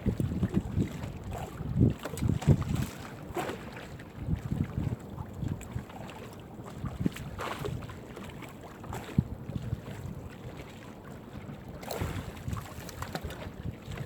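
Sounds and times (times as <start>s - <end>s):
wind buffeting microphone: 0.0s - 8.2s, 8.8s - 10.6s, 11.4s - 14.0s
water sloshing: 0.0s - 14.0s.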